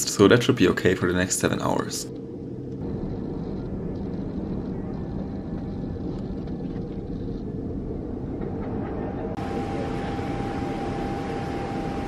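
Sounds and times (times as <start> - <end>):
airliner cabin rumble and hiss: 0.0 - 12.0
faint steady whine: 0.0 - 12.0.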